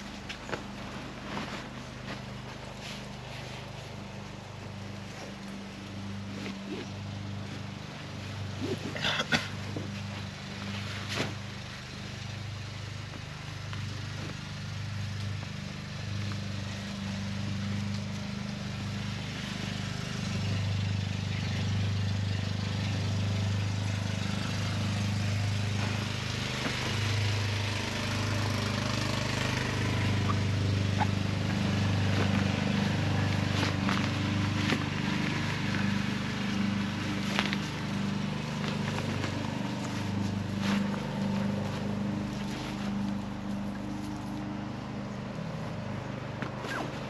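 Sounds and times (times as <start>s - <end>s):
tent fabric rustling: 0.0s - 17.3s, 23.9s - 47.0s.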